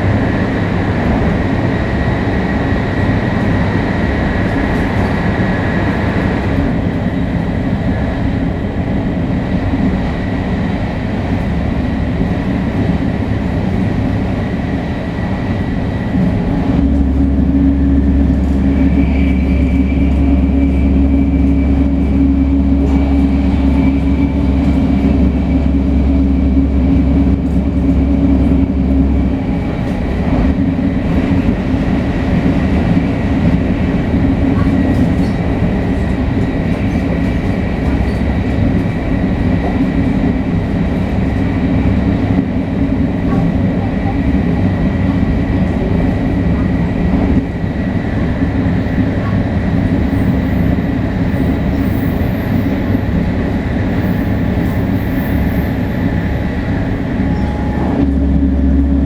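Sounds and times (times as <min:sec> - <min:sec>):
train rail noise: 0:00.0 - 0:59.0
train traction motor whine: 0:11.7 - 0:59.0.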